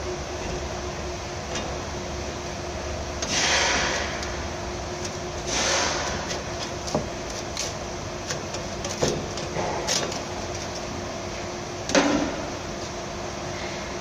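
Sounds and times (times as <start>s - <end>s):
workshop fan humming: 0.0s - 14.0s.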